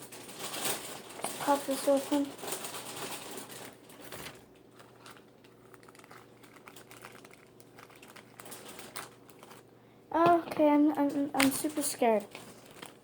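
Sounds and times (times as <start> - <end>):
plastic packaging crinkling: 0.0 - 9.8, 11.0 - 13.0.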